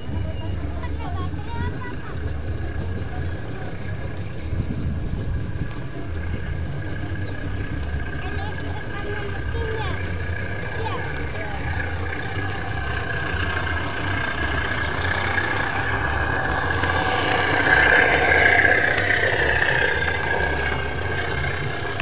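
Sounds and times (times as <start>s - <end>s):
miniature train passing: 0.0s - 22.0s.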